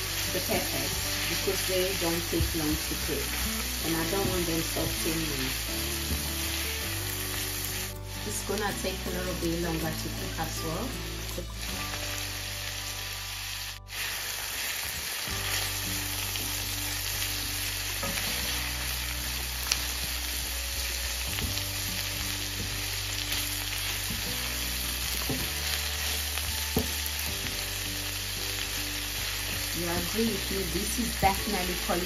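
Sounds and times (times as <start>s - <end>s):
prawns and vegetables sizzling in wok: 0.0s - 32.0s.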